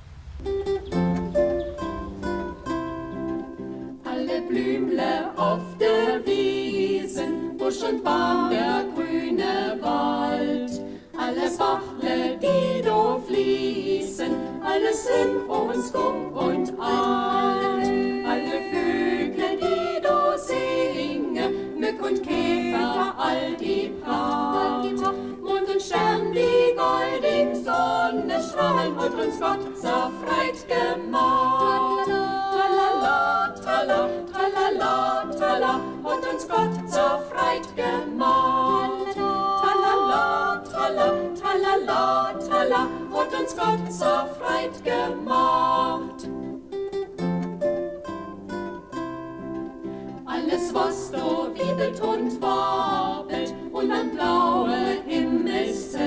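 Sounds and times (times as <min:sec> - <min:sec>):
plucked string instrument: 0:00.0 - 0:56.0
choir singing: 0:00.8 - 0:46.6, 0:50.2 - 0:56.0.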